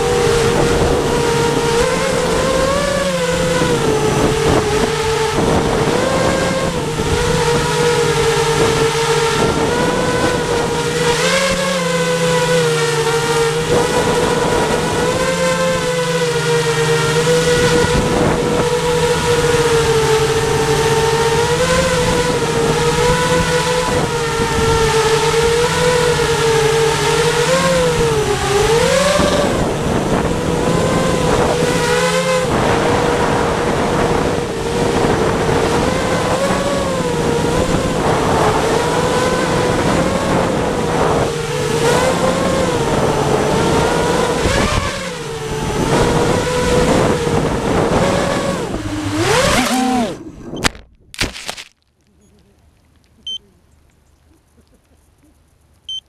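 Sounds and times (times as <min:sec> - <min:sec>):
quadcopter motors whining: 0:00.0 - 0:50.8.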